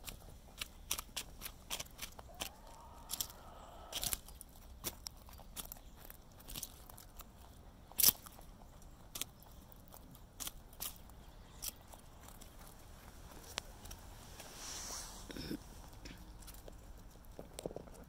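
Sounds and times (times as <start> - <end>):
rabbits crunching carrots: 0.0 - 18.0.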